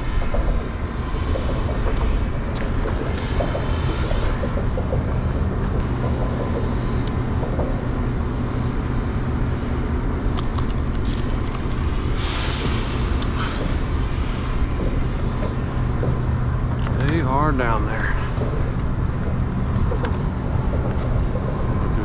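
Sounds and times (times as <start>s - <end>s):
low engine hum: 0.0s - 22.0s
rush of noise: 0.0s - 22.0s.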